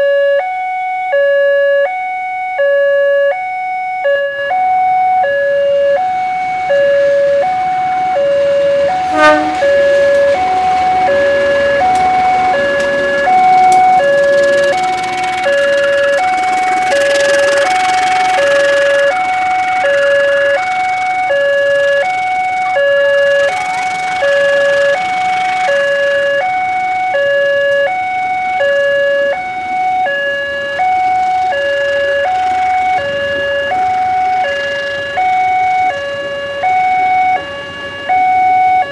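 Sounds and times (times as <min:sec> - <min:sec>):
railroad crossing alarm: 0:00.0 - 0:38.9
loud falling-pitch sound: 0:04.1 - 0:38.9
passenger train passing: 0:04.6 - 0:38.9.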